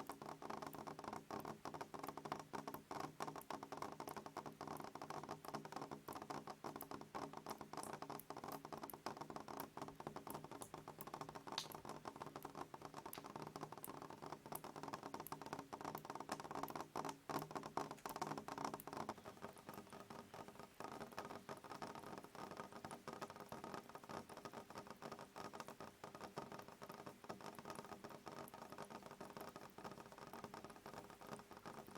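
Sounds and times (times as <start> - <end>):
faint steady hum: 0.0 - 31.9
rain pattering: 0.0 - 31.9.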